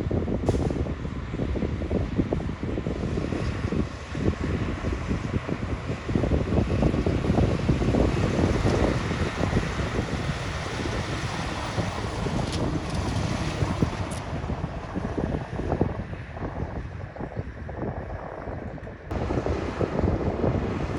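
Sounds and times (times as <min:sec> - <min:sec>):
wind buffeting microphone: 0:00.0 - 0:20.9
heavy machinery rumble: 0:00.1 - 0:20.9.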